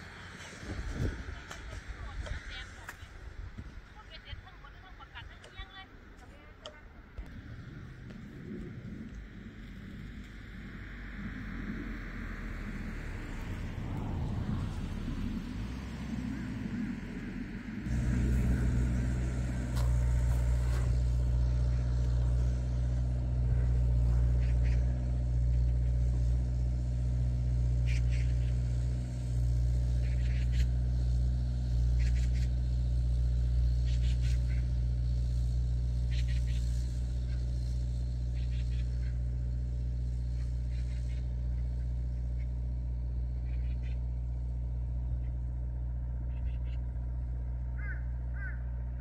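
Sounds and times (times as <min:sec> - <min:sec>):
car interior road rumble: 0:00.0 - 0:49.0.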